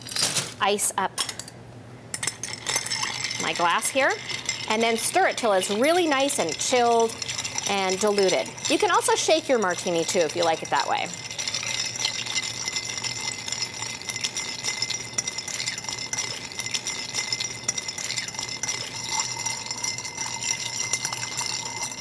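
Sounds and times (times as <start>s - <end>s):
ice clinking against glass: 2.1s - 22.0s.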